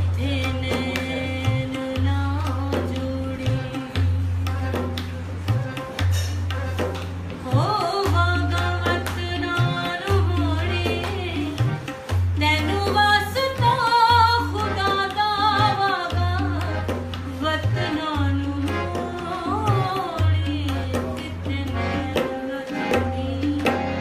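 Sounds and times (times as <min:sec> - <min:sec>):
woman singing: 0:00.0 - 0:04.7, 0:07.4 - 0:24.0
harmonium: 0:00.0 - 0:24.0
tabla strokes: 0:00.0 - 0:24.0.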